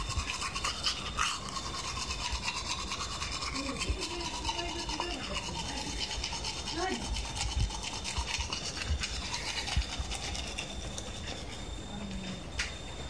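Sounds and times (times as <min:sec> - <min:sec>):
toothbrush scrubbing teeth: 0:00.0 - 0:11.8.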